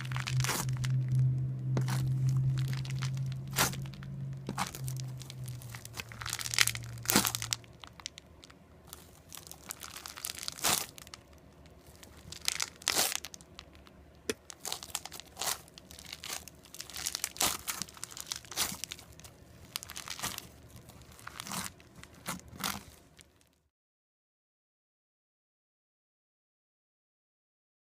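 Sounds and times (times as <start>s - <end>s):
crunchy slime crackling: 0.0s - 23.6s.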